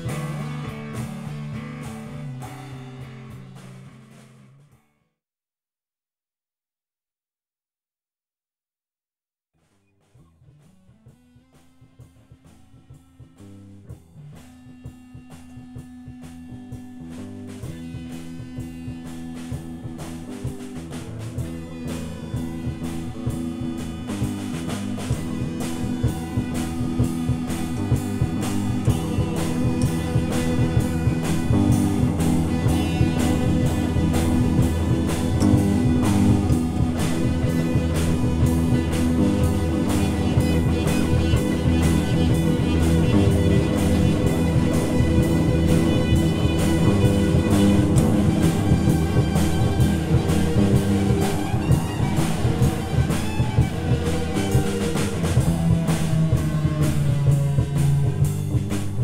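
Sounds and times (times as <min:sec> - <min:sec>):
drum kit: 0:00.0 - 0:04.8, 0:09.7 - 0:59.0
electric guitars: 0:00.0 - 0:04.9, 0:10.5 - 0:59.0.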